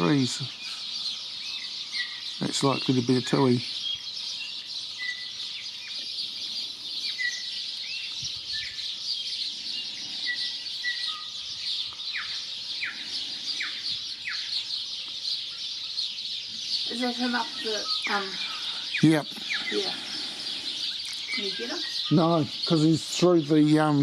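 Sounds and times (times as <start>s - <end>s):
bird whistled song: 0.0s - 24.0s
birds chirping: 0.0s - 24.0s.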